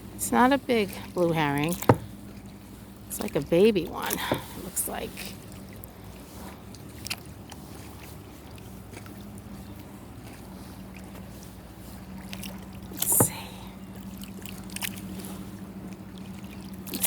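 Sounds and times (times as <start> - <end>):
steady low hum: 0.0 - 17.0
water against kayak hull: 0.0 - 17.0.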